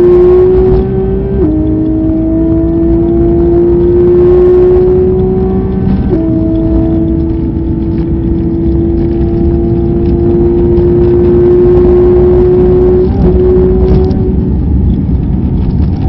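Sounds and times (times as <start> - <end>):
race car engine at full throttle: 0.0 - 16.0
road and wind noise: 0.0 - 16.0.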